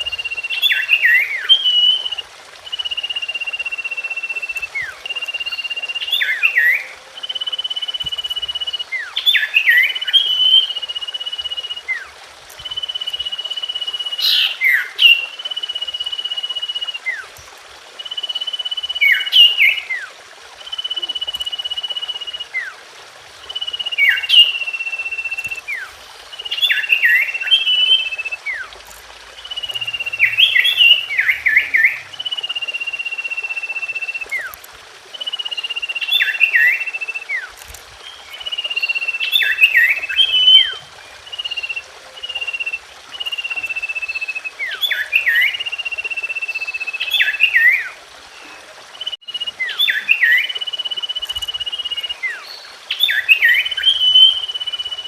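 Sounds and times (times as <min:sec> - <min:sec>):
bird singing whistles: 0:00.0 - 0:17.3, 0:18.0 - 0:22.8, 0:23.4 - 0:28.7, 0:29.4 - 0:55.0.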